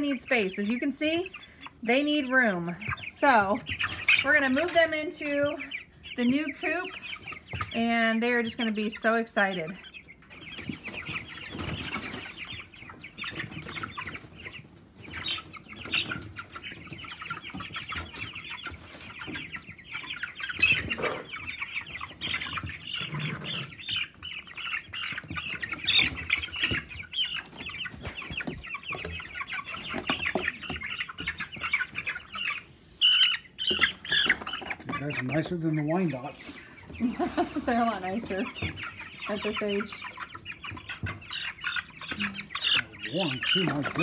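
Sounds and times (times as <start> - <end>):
chicks peeping: 0.0 - 44.0.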